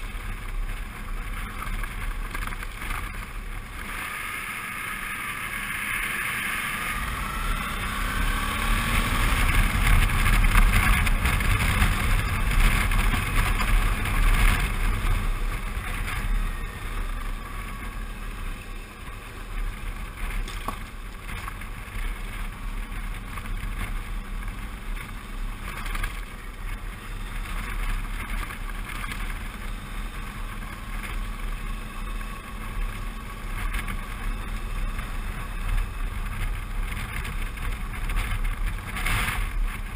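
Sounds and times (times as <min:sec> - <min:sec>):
motorcycle engine running: 0:00.0 - 0:39.9
wind buffeting microphone: 0:07.0 - 0:39.9.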